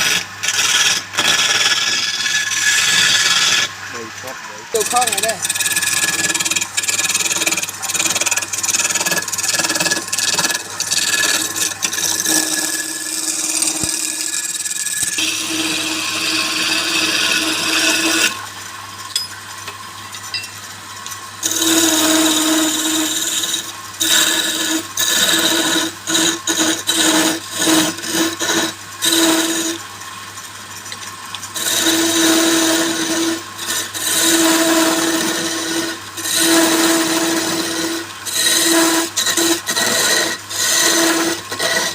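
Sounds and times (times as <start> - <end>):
lathe humming: 0.0 - 18.4, 21.4 - 29.8, 31.6 - 41.9
turning tool cutting wood: 0.0 - 18.4, 21.4 - 29.9, 31.5 - 41.9.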